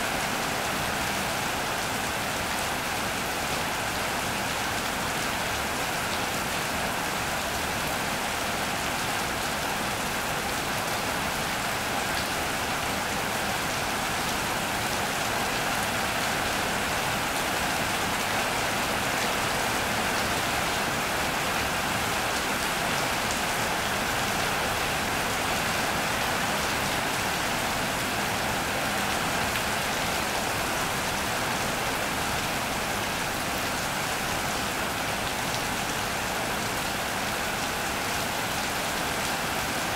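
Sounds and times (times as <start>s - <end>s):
rain drumming on a metal roof: 0.0s - 39.9s
rain splashing on wet paving: 0.0s - 39.9s.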